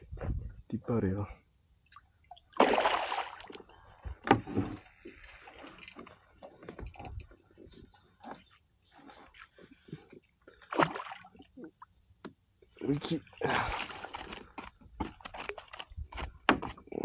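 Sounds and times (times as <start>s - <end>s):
water splashing and sloshing: 1.8s - 16.9s.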